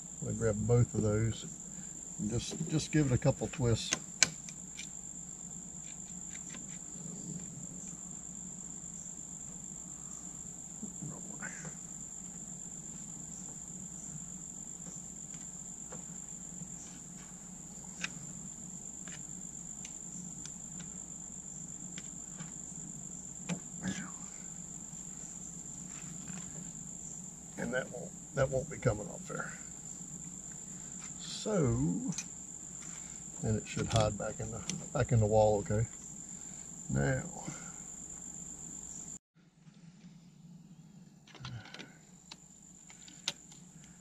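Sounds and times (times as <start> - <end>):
insects trilling: 0.0 - 39.2, 40.2 - 44.0.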